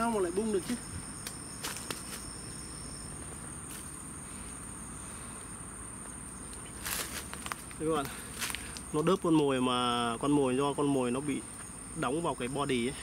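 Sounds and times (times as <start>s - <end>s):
high-pitched insect song: 0.0s - 13.0s
lower insect note: 0.0s - 13.0s.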